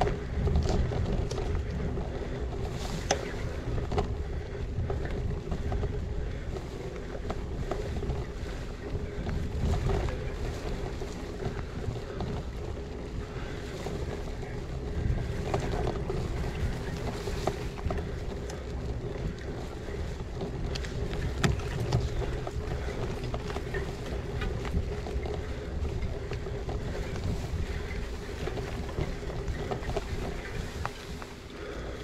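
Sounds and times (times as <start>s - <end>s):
low rumble of bike ride: 0.0s - 32.0s
wind buffeting microphone: 0.0s - 32.0s.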